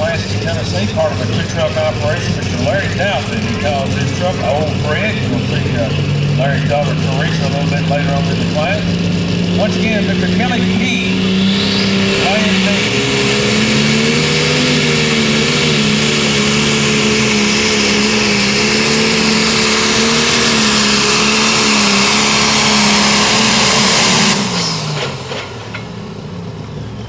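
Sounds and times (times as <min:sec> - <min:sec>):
diesel tractor engine under load: 0:00.0 - 0:27.0.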